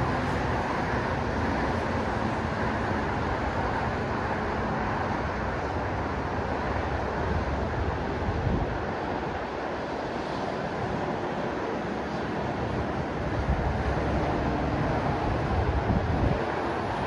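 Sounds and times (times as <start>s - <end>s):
distant road traffic hum: 0.0s - 17.0s.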